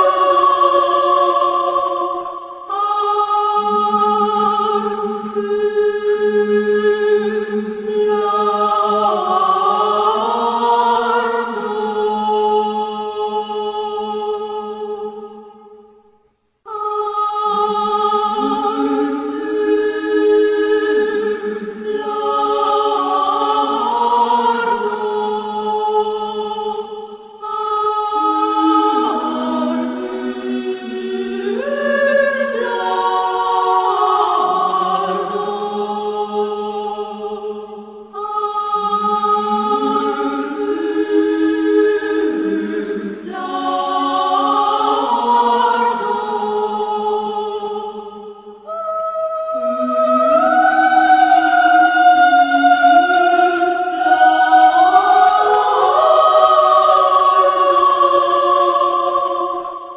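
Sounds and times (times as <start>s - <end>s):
choir singing slow chords: 0.0s - 59.9s.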